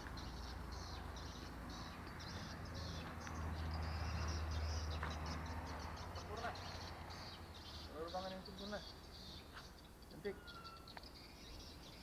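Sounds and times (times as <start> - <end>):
small animals chirping: 0.2 - 12.0.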